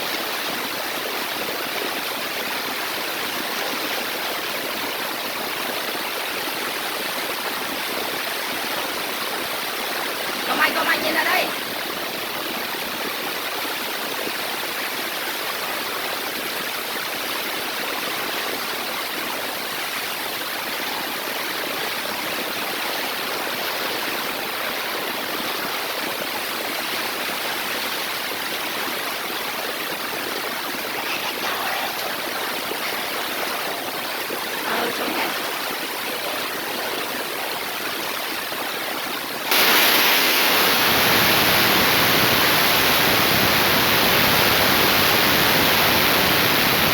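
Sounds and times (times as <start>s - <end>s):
heavy rainwater pouring: 0.0s - 46.9s.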